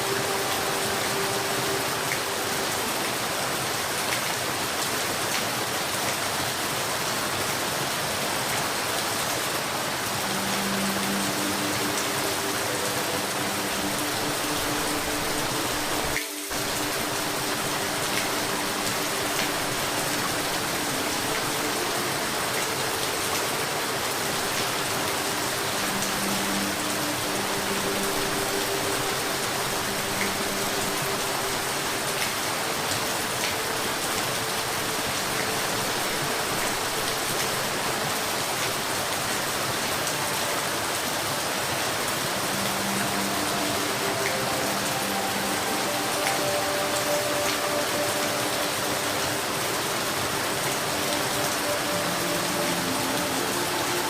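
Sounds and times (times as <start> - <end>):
dense rainfall hiss: 0.0 - 54.0.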